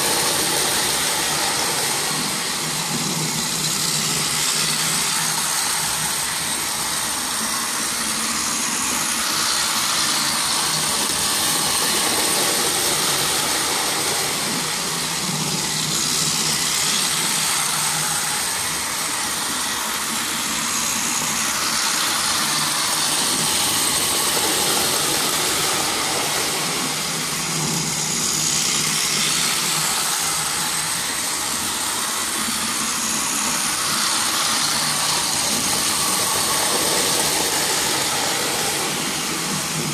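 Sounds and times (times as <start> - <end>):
toy train motors whirring: 0.0 - 39.9.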